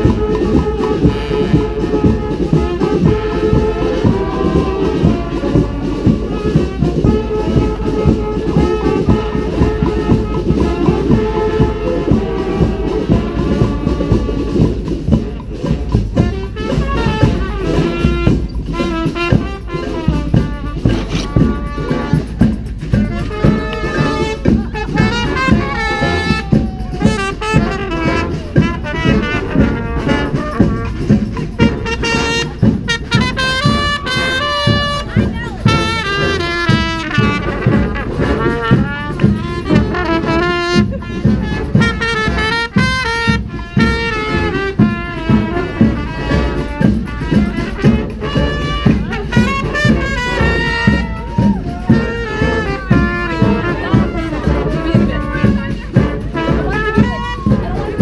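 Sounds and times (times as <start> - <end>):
steady drum beat: 0.0 - 58.0
trumpets and horns playing: 0.0 - 58.0.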